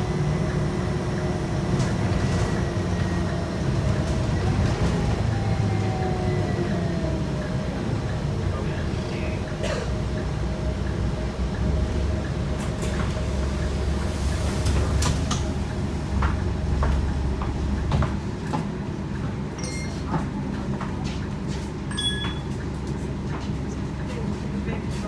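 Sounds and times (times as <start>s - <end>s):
bus diesel engine rumble: 0.0s - 25.0s.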